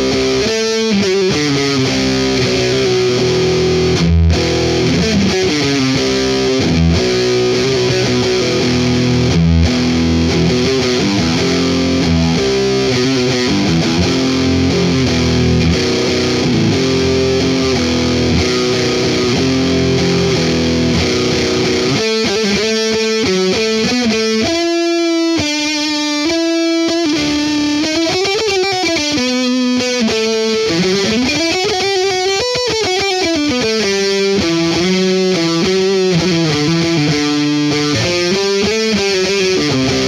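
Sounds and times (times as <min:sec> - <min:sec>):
distorted electric guitar riff: 0:00.0 - 0:40.0.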